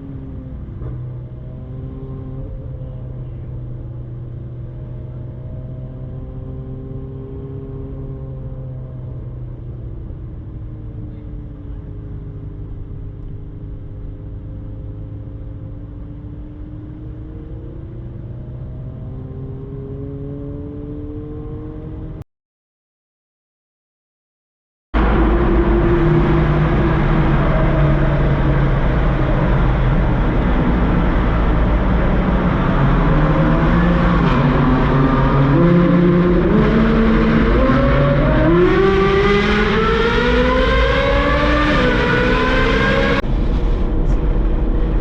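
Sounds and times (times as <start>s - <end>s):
sports car engine driving: 0.0s - 22.2s, 25.0s - 45.0s.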